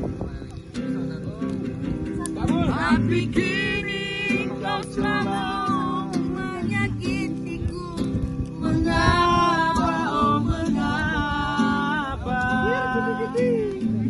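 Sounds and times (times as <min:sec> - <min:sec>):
guitar accompaniment: 0:00.0 - 0:14.0.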